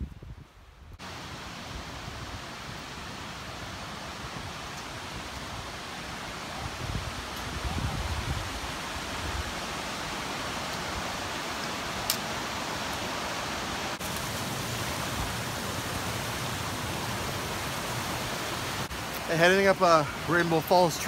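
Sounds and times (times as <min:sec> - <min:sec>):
creek rushing: 0:01.0 - 0:21.0.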